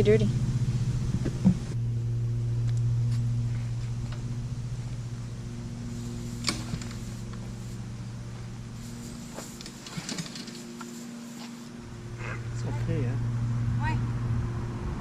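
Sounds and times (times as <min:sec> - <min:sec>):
pressure washer motor humming: 0:00.0 - 0:13.8.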